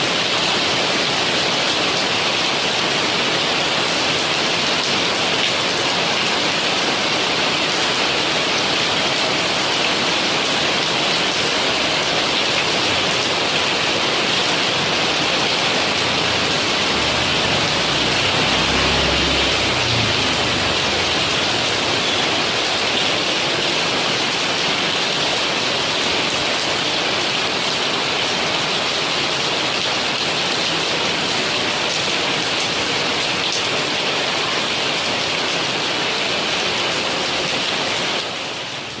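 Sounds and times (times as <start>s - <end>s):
steady rain hissing: 0.0s - 39.0s.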